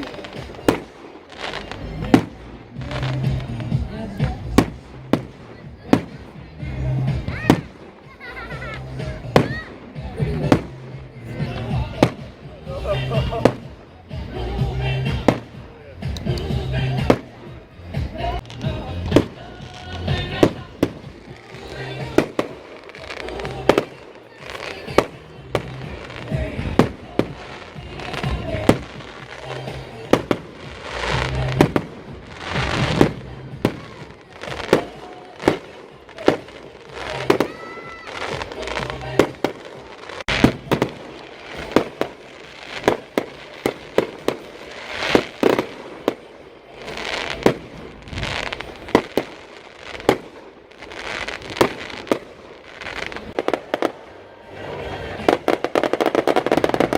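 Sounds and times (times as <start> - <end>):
fireworks crackling and rumbling: 0.0 - 56.9.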